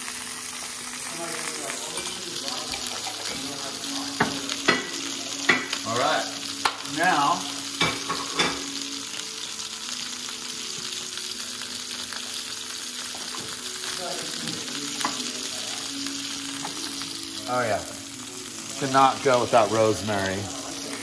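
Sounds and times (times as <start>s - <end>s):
food sizzling in a skillet: 0.0s - 21.0s.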